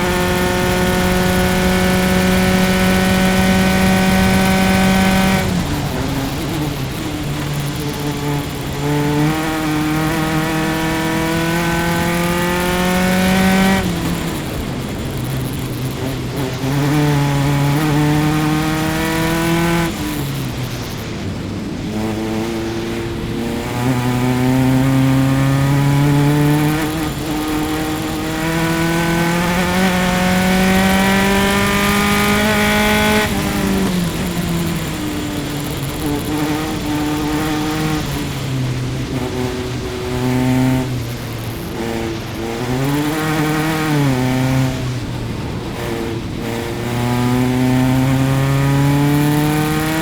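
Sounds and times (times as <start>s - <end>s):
race car engine revving: 0.0s - 50.0s.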